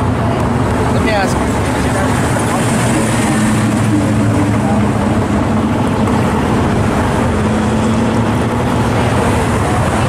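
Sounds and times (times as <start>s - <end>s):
car engine rumbling by: 0.0s - 10.0s.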